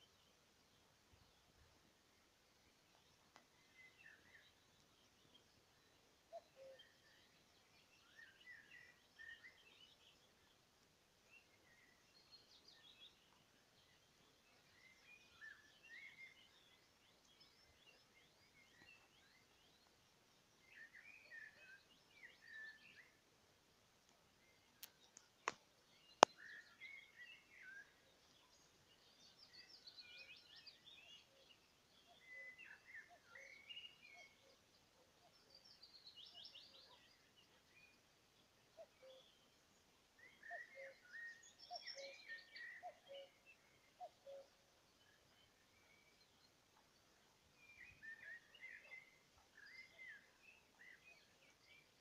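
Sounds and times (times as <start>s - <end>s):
faint songbirds singing: 0.0s - 52.0s.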